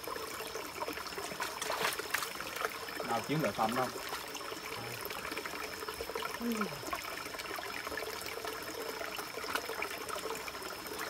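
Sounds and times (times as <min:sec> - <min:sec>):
stream running and trickling: 0:00.0 - 0:11.0.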